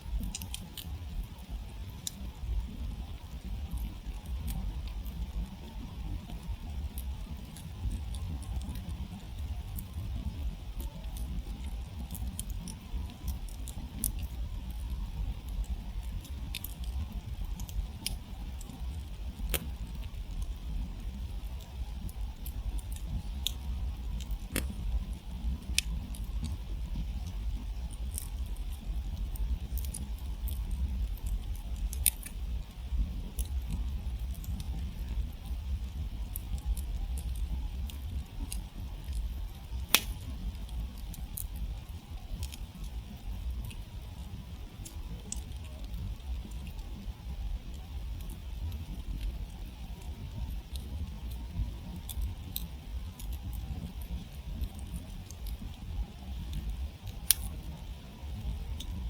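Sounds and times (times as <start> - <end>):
embers crackling and popping: 0.0 - 59.0
fire low rumble: 0.0 - 59.0.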